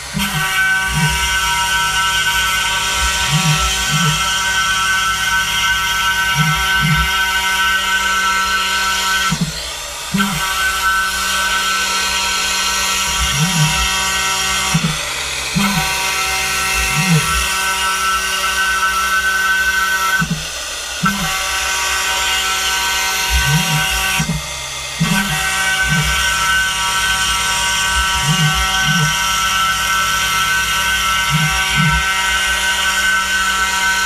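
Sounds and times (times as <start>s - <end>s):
milling spindle whining: 0.0s - 34.0s
motors whirring: 0.0s - 34.0s.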